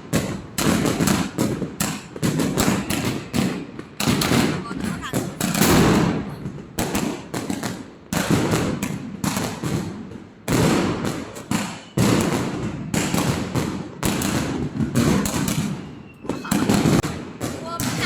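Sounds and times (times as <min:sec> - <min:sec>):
fireworks exploding with echoes: 0:00.0 - 0:18.0.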